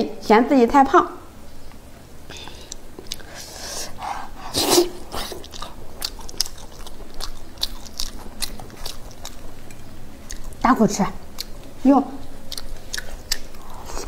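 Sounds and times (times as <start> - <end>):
wet chewing mouth sounds: 2.4 - 14.0.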